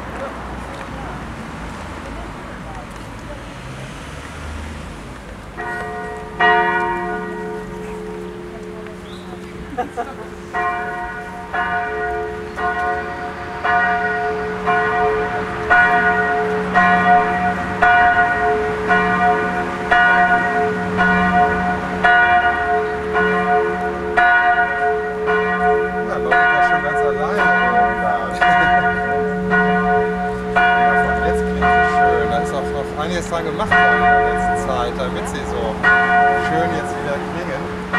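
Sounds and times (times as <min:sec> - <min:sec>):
church bells ringing: 0:05.5 - 0:37.9.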